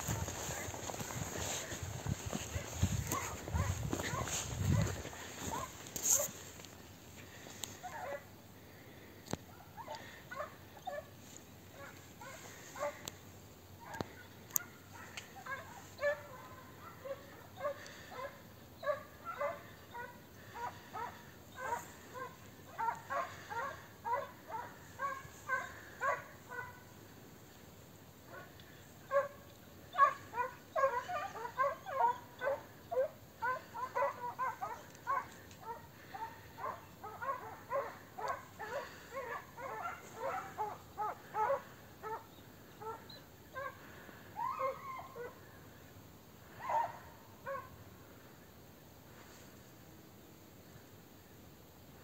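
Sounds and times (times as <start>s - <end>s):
hunting dogs yelping: 0.0s - 6.5s, 7.3s - 8.4s, 9.5s - 13.1s, 13.7s - 26.9s, 28.2s - 45.6s, 46.4s - 47.8s.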